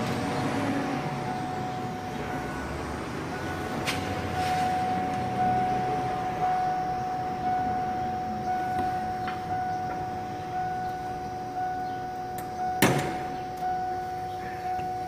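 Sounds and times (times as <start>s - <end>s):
high electronic tone: 0.6s - 15.0s.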